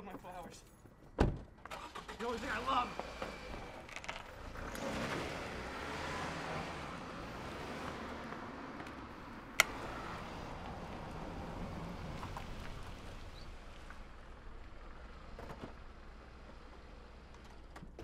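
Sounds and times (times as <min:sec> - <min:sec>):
car engine and tyre noise: 0:01.6 - 0:18.0.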